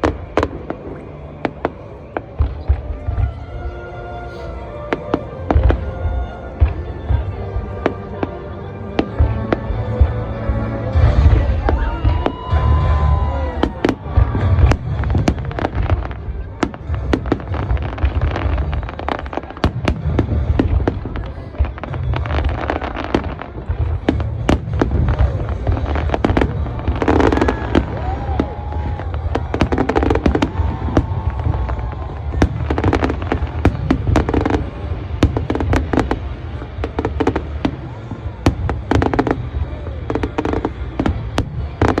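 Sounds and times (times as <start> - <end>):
fireworks booming and crackling: 0.0 - 42.0
music playing: 0.0 - 42.0.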